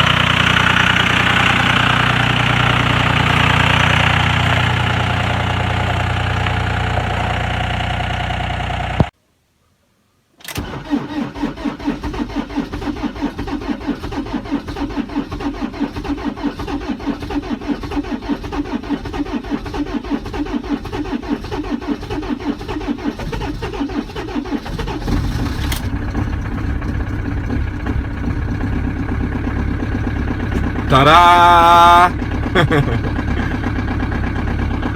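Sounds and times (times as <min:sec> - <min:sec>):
diesel engine running: 0:00.0 - 0:09.1, 0:10.5 - 0:34.9
diesel starter cranking: 0:00.0 - 0:09.1, 0:10.4 - 0:34.9.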